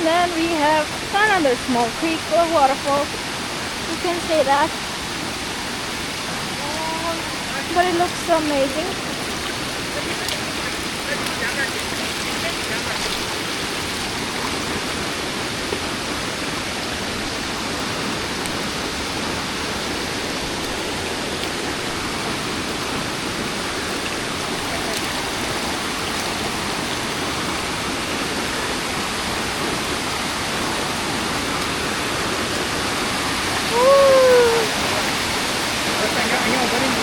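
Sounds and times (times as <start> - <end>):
creek and waterfall rushing: 0.0 - 37.0.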